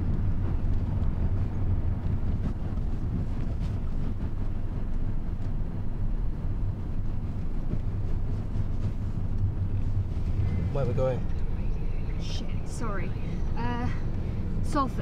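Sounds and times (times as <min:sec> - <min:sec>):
car engine rumble: 0:00.0 - 0:15.0
tyres on road: 0:00.0 - 0:15.0.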